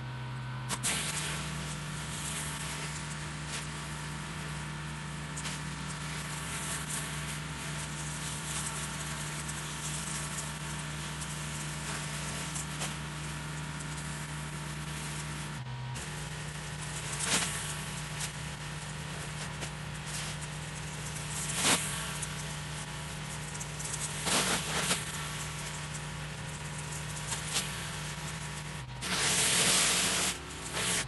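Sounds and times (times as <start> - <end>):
pressure washer engine humming: 0.1 - 31.0
water spraying on concrete: 0.7 - 31.0.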